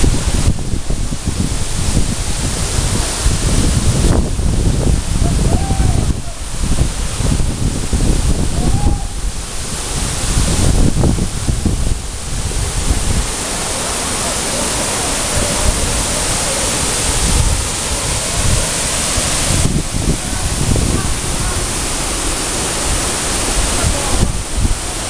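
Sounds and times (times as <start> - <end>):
waterfall rushing: 0.0 - 25.0
wind hitting microphone: 0.0 - 25.0.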